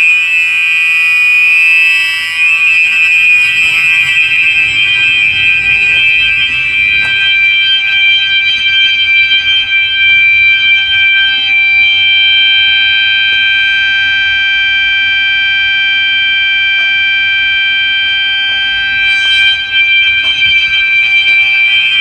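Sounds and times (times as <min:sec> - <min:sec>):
high-pitched fire alarm horn tone: 0:00.0 - 0:22.0.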